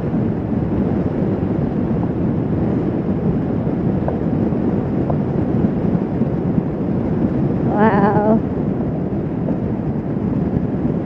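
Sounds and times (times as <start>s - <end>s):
motorcycle engine and road noise: 0.0s - 11.0s
wind on microphone: 0.0s - 11.0s.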